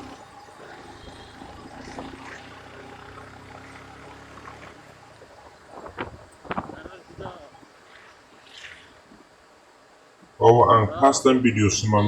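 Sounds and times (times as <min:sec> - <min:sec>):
floodwater rushing: 0:00.0 - 0:11.5.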